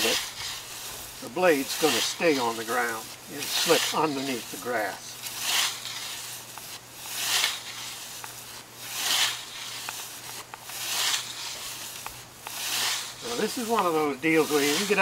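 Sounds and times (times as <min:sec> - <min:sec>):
scythe swishing through grass: 0:00.0 - 0:15.0.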